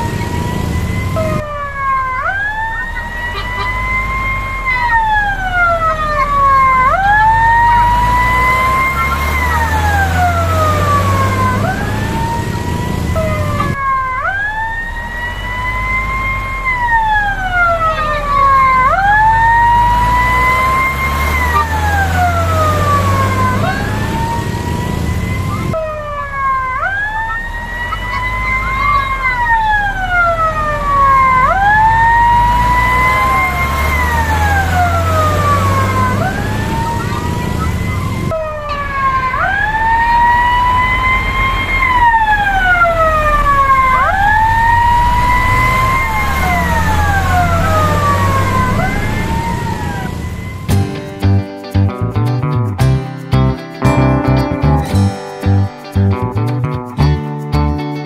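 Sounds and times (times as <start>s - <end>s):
fire truck siren wailing: 0.0s - 50.9s
truck engine rumble: 0.0s - 57.9s.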